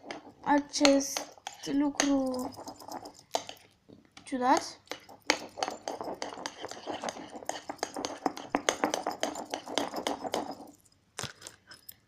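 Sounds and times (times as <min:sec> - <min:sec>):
utensil tapping bowl: 0:00.0 - 0:10.8
utensil stirring slime in bowl: 0:00.0 - 0:10.9.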